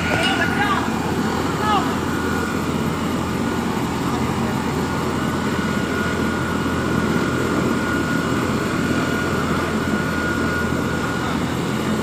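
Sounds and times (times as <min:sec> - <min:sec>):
engine machinery drone: 0:00.0 - 0:12.0.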